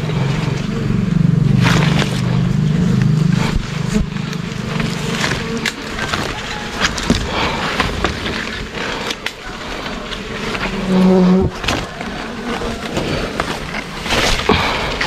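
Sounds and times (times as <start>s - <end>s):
bees buzzing: 0.0s - 15.0s
leaves and branches rustling: 0.0s - 15.0s.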